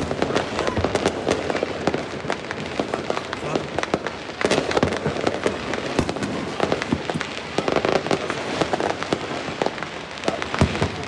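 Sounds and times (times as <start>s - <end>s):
firecrackers crackling: 0.0s - 11.0s
firework bangs: 0.0s - 11.0s.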